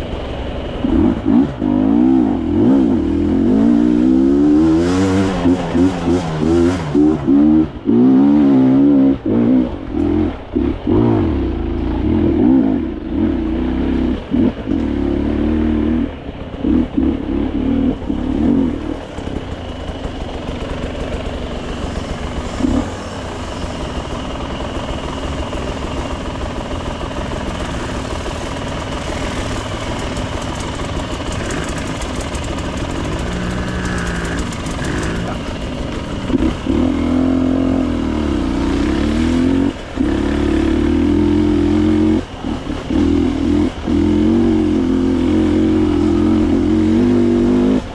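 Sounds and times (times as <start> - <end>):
dirt bike engine revving: 0.7 - 47.9.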